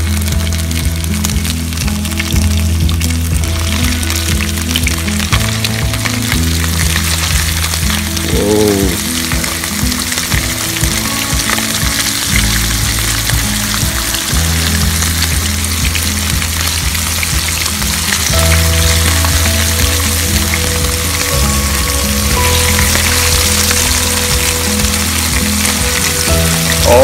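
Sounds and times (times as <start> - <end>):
background music with low notes: 0.0 - 27.0
fish sizzling in hot oil: 0.0 - 27.0.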